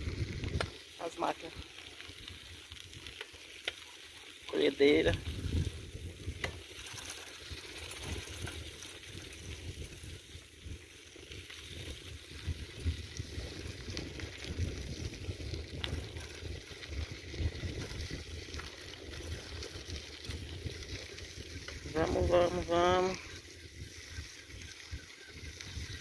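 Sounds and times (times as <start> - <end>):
bicycle rolling on dirt road: 0.0 - 26.0
wind rumbling on microphone: 0.0 - 26.0.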